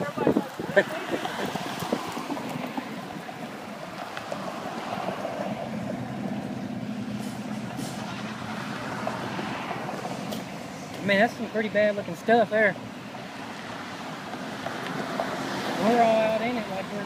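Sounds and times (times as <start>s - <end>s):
passing cars: 0.0s - 17.0s
vehicle engine hum: 0.0s - 17.0s.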